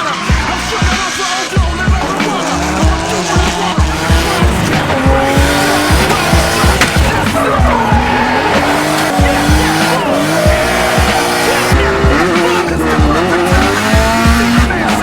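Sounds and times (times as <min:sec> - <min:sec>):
car engines revving: 0:00.0 - 0:15.0
music with fast kick drum beat: 0:00.0 - 0:15.0
tyres squealing: 0:00.0 - 0:15.0.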